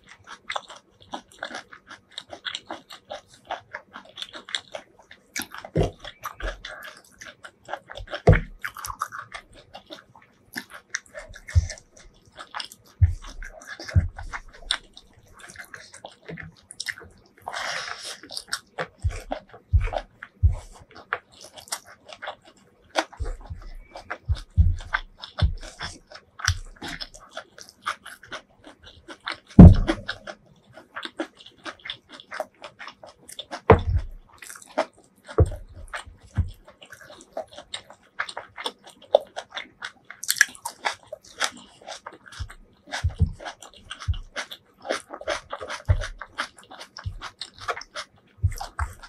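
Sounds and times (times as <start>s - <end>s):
fingers squishing rice: 0.0s - 49.0s
wet chewing and mouth smacks: 0.0s - 49.0s.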